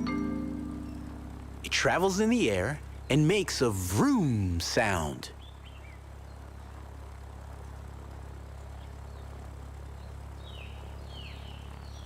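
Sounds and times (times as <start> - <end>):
low background drone: 0.0 - 12.0.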